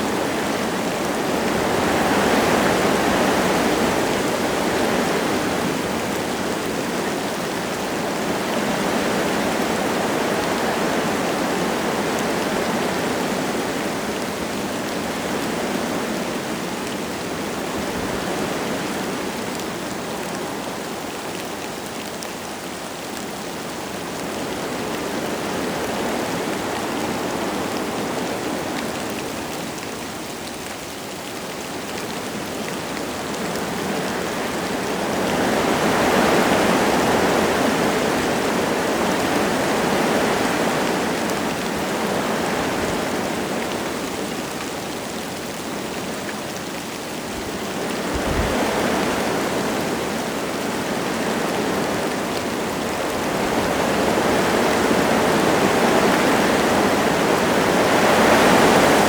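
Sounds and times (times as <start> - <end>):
light rain: 0.0 - 59.0
wind gusting through trees: 0.0 - 59.0.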